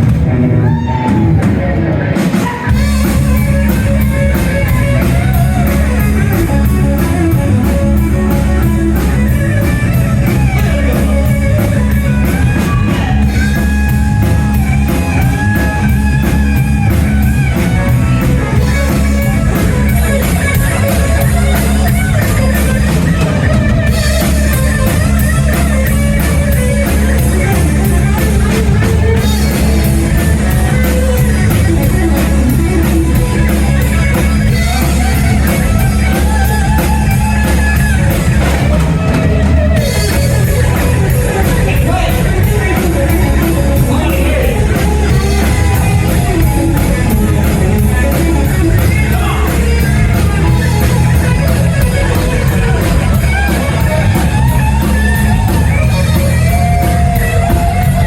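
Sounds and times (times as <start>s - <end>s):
guitar: 0.0s - 58.0s
rock band playing: 0.0s - 58.0s.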